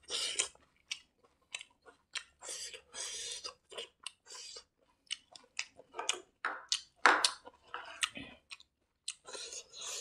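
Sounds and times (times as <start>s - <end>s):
wet chewing clicks: 0.1s - 9.6s.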